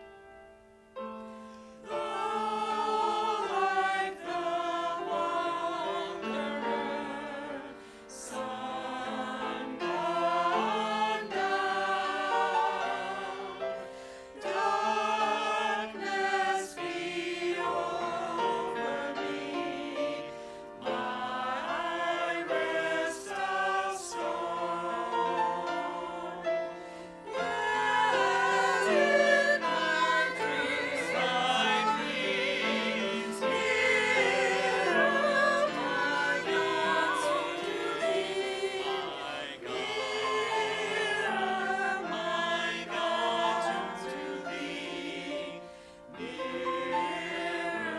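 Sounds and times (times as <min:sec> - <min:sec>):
congregation singing a hymn: 0:00.9 - 0:47.9.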